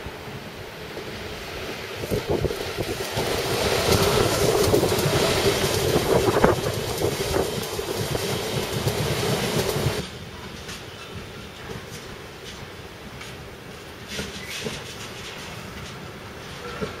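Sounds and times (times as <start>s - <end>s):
freight train rolling past: 0.0s - 17.0s
train wheels clicking on track: 0.1s - 17.0s.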